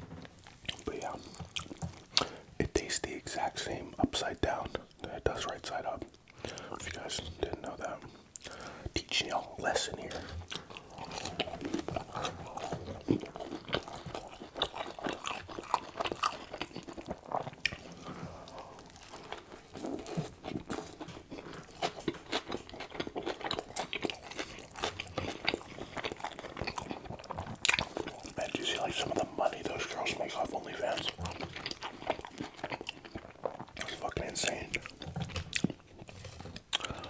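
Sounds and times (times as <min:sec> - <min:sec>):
crunching and chewing food: 0:00.0 - 0:37.0.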